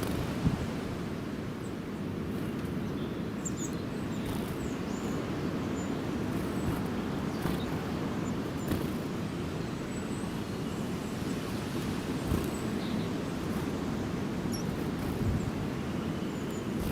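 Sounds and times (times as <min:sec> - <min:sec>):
faint bird chirps: 0:01.6 - 0:16.9.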